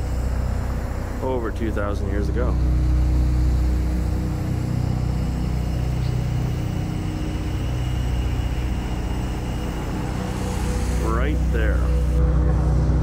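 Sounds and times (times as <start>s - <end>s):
low rumble of city traffic: 0.0s - 13.0s.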